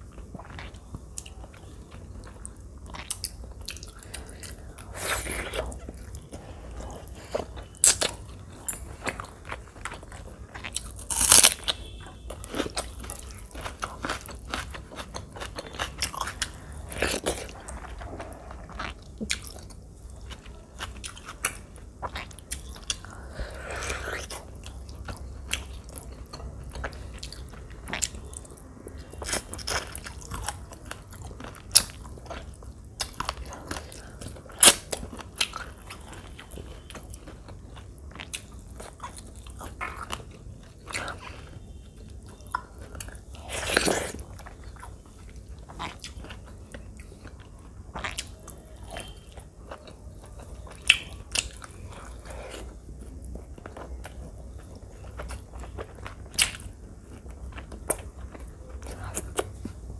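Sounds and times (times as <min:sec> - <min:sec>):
wet chewing and smacking: 0:00.0 - 0:59.9.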